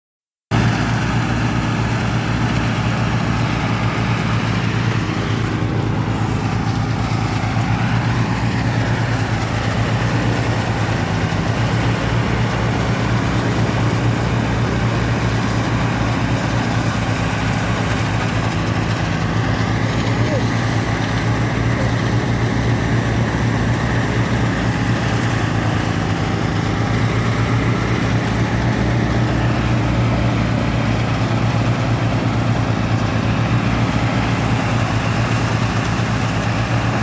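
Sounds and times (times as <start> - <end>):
threshing machine motor chugging: 0.5 - 37.0.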